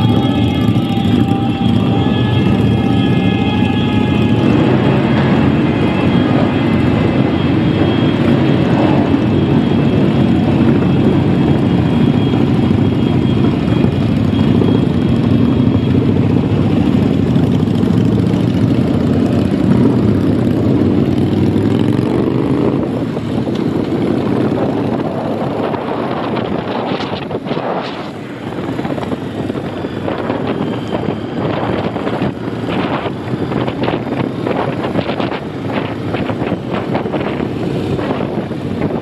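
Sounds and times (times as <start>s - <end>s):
motorcycle engine revving: 0.0s - 39.0s
motorcycle engines running: 0.0s - 39.0s.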